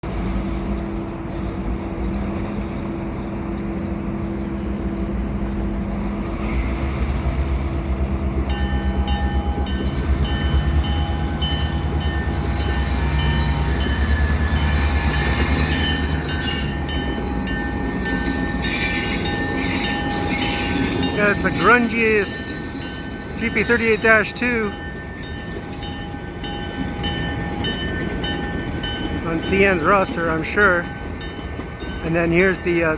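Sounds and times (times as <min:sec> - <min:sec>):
locomotive engine throbbing: 0:04.9 - 0:32.9.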